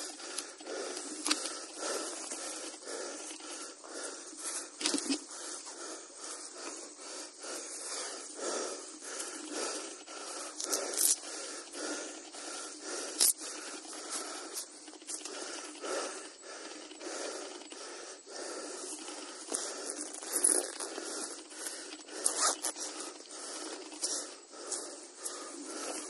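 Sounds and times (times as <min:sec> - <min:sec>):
person breathing heavily: 0:00.0 - 0:26.0.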